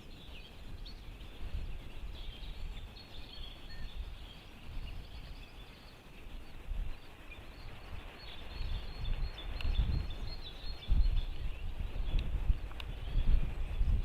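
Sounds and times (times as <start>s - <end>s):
small songbirds chirping: 0.0s - 14.0s
wind rumbling on microphone: 0.0s - 14.0s.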